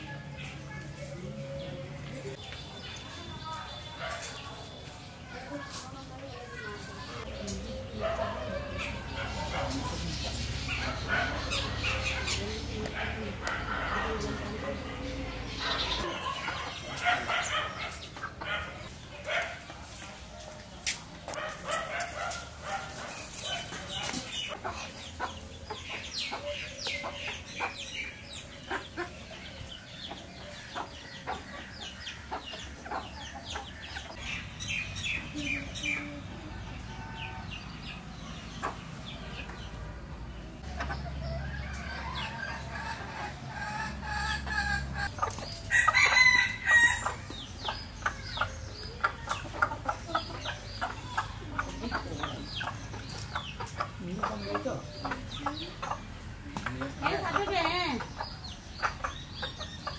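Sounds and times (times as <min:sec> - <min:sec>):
chickens clucking: 0:00.0 - 0:59.9
beaks tapping on ground: 0:00.4 - 0:39.8, 0:40.6 - 0:59.9.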